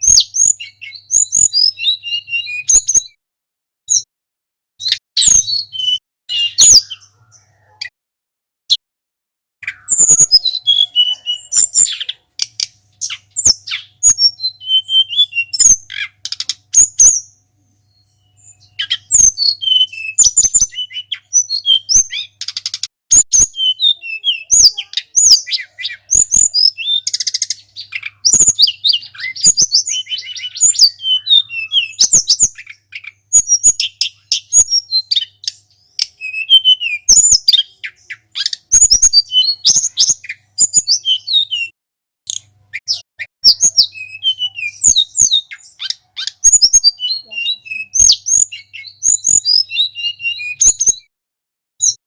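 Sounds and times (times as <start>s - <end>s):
bird singing high chirps: 0.0s - 3.2s, 4.8s - 8.0s, 9.6s - 51.1s.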